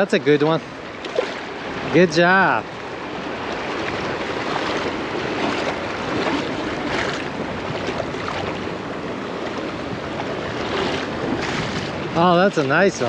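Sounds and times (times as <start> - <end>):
shallow surf sloshing: 0.0 - 13.0
wind buffeting microphone: 0.0 - 13.0.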